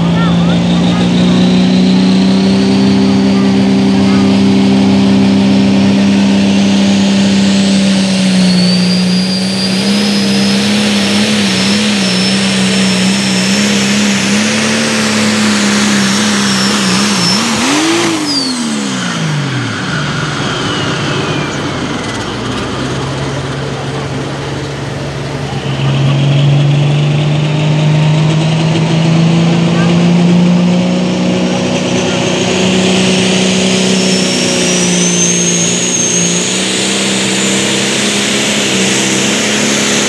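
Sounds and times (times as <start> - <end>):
tractor diesel engine at full throttle: 0.0 - 40.0
high turbo whistle: 0.1 - 23.1, 29.5 - 40.0.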